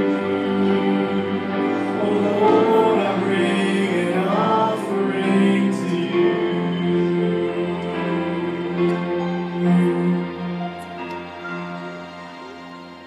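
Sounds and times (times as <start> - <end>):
cello holding long low notes: 0.0 - 13.0
keyboard melody: 0.0 - 13.0.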